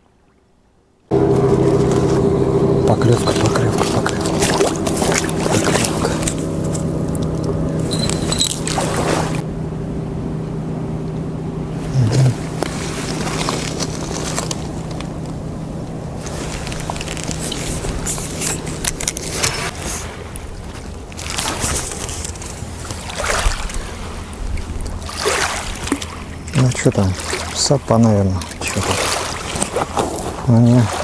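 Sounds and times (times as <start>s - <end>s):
engine running steadily: 1.1s - 31.0s.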